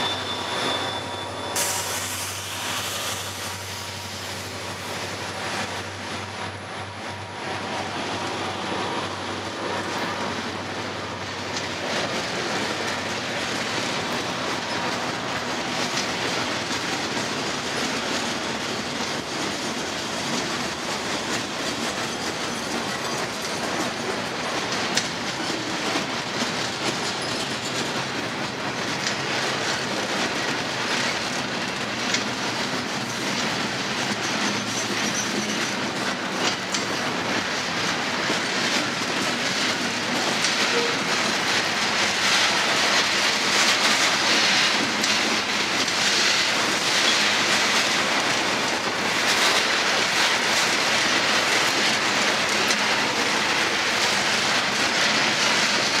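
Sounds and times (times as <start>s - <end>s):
steel wheels rumbling on rail: 0.0s - 56.0s
clickety-clack over rail joints: 2.6s - 56.0s.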